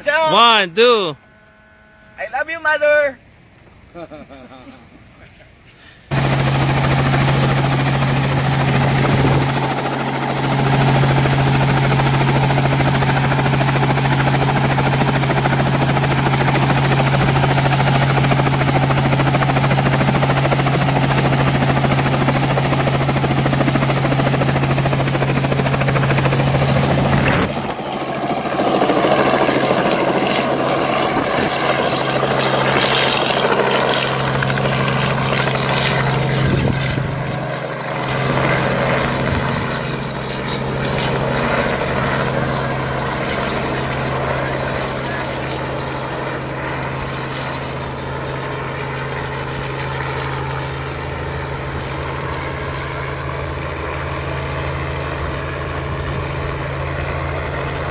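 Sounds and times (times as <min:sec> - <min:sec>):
helicopter rotor and engine hum: 0:00.0 - 0:57.9.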